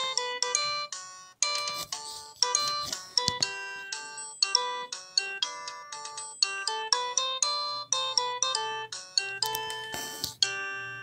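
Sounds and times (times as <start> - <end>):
polyphonic phone ringtone melody: 0.0 - 11.0.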